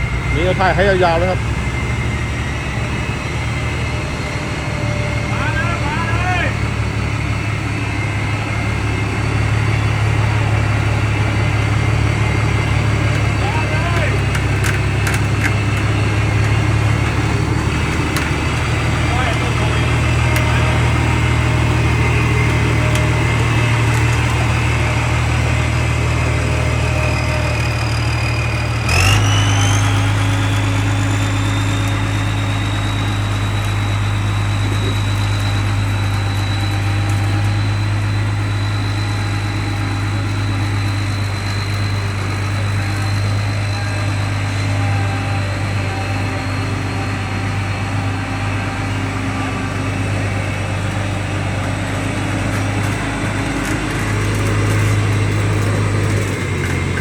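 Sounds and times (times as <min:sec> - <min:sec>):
diesel engine running: 0:00.0 - 0:57.0
rising whine: 0:00.0 - 0:57.0.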